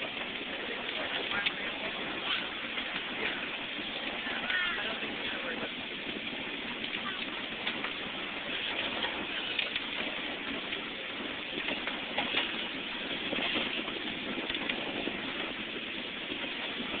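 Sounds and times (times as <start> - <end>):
light track clicks: 0.0 - 10.9, 11.5 - 15.5
miniature train rumbling on track: 0.0 - 17.0.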